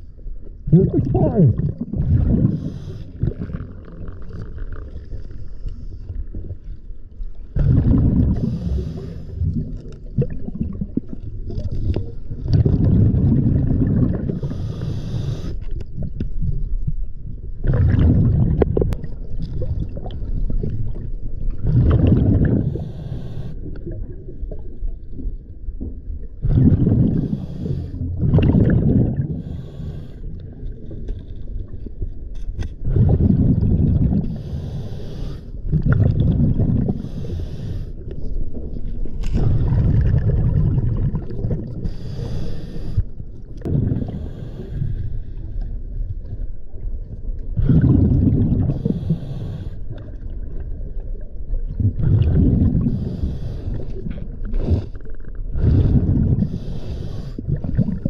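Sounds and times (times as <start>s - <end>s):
underwater bubbles gurgling: 0.0s - 58.0s.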